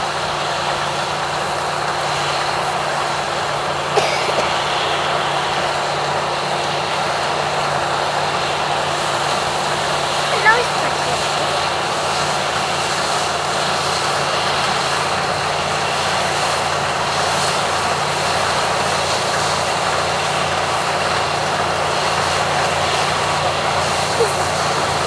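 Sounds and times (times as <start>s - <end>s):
combine harvester engine drone: 0.0s - 25.0s
rushing noise of cutting: 0.0s - 25.0s.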